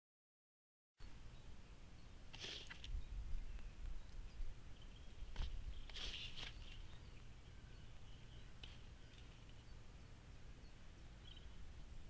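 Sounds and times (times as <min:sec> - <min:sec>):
distant bird chirps: 0:01.0 - 0:12.0.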